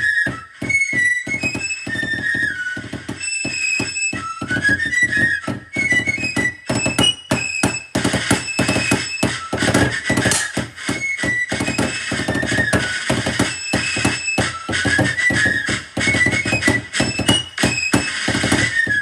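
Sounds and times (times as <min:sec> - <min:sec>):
snare drum rudimental strokes: 0:00.0 - 0:19.0.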